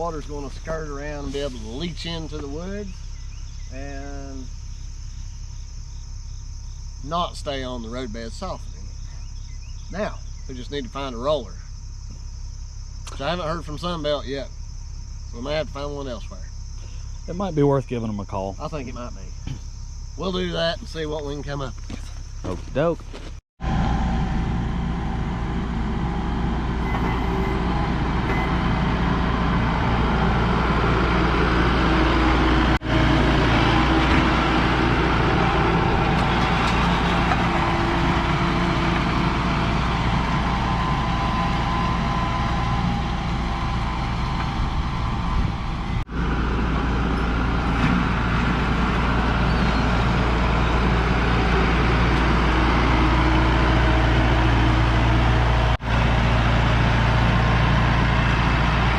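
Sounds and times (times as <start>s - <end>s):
heavy vehicle engine running: 0.0s - 17.8s, 18.6s - 58.9s.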